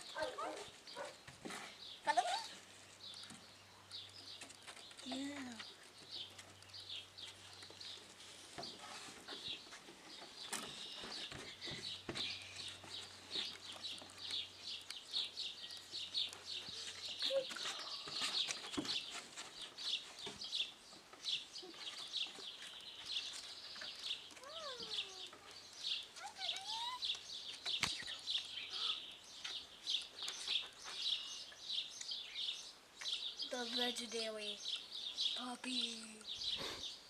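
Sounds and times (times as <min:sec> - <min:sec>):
birds chirping rapidly: 0:00.0 - 0:37.0.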